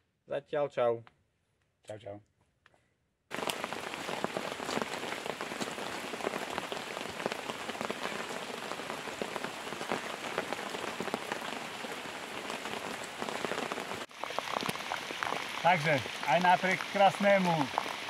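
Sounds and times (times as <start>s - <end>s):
rain falling on water: 3.3s - 18.0s.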